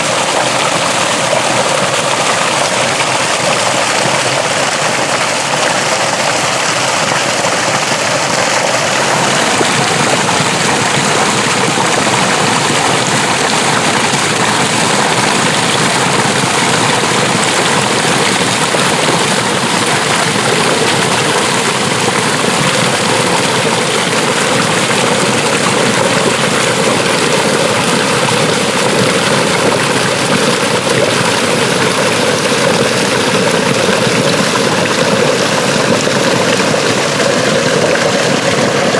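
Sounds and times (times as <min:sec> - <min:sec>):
water rushing along a ditch: 0:00.0 - 0:38.9.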